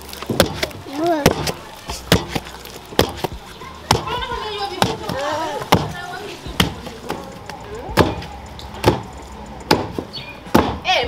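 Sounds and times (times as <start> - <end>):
pestles pounding dough in mortar: 0.0 - 10.9.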